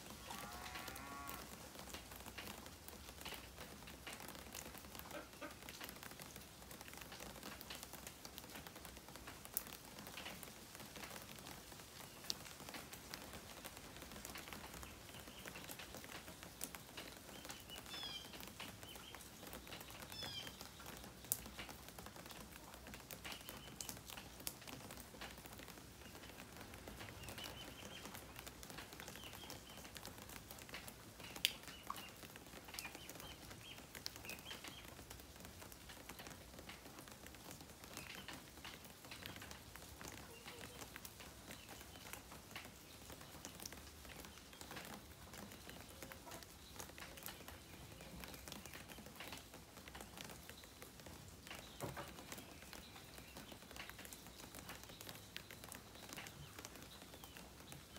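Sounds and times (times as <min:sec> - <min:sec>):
light rain pattering: 0:00.0 - 0:57.9
water drips: 0:00.0 - 0:57.9.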